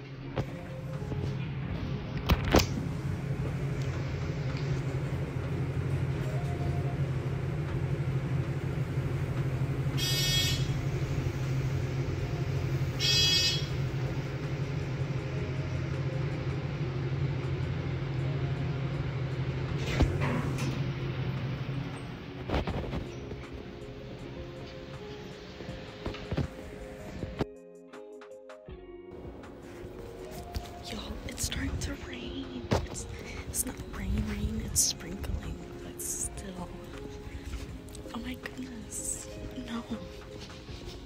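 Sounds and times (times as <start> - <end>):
elevator humming: 0.0 - 27.5, 29.0 - 41.0.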